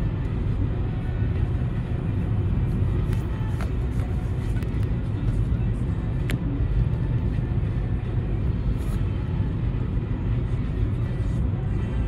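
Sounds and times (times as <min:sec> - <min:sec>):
car driving on road: 0:00.0 - 0:12.0.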